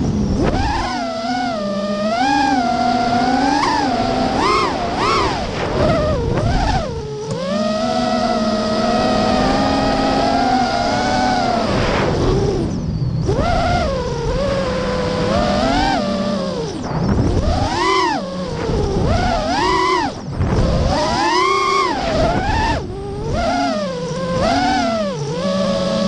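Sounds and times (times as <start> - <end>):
quadcopter motors whining: 0.0 - 26.0
wind rush on microphone: 0.0 - 26.0.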